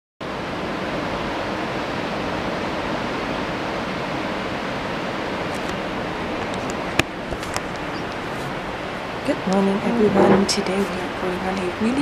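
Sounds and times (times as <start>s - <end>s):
ocean surf rushing: 0.2s - 12.0s.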